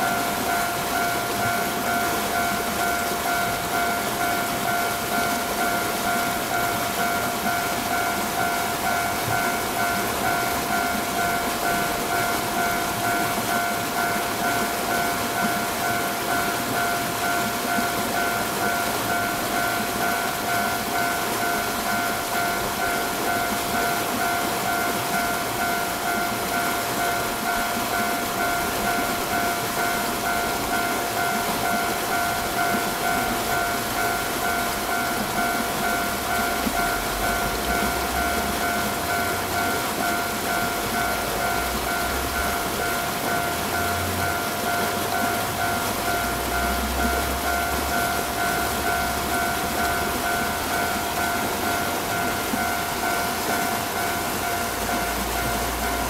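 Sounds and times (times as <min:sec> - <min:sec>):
level crossing bell ringing: 0:00.0 - 0:56.0
steady hiss: 0:00.0 - 0:56.0.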